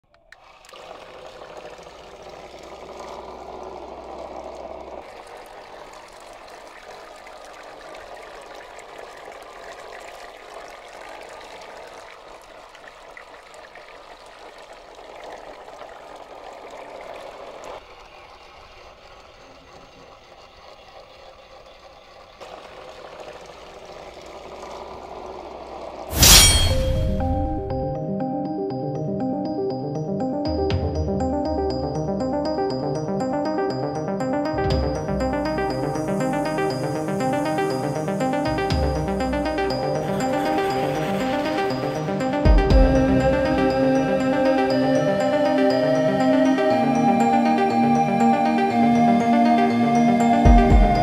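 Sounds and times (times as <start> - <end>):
propellers churning water: 0.1 - 26.2, 32.3 - 51.0.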